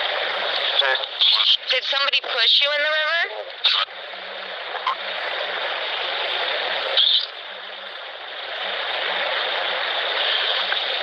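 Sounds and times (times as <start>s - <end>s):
white-noise static hiss: 0.0s - 11.0s.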